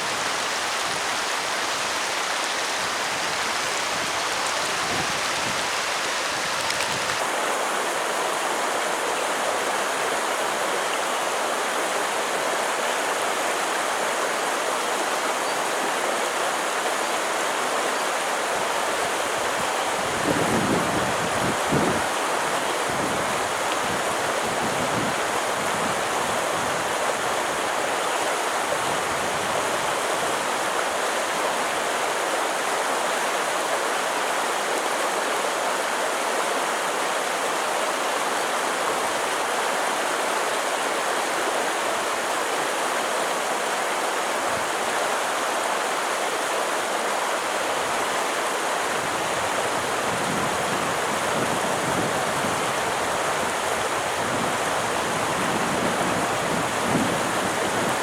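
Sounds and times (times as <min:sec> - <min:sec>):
stream of water rushing: 0:00.0 - 0:58.0.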